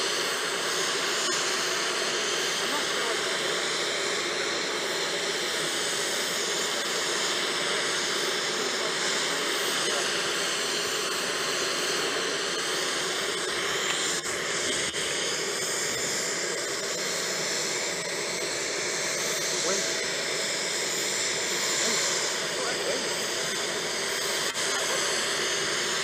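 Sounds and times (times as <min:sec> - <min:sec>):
jet turbine running: 0:00.0 - 0:26.0.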